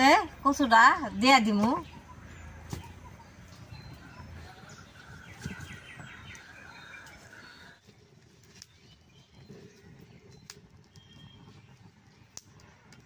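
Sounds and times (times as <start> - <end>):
bird chirping: 1.0 - 7.8, 8.5 - 12.3.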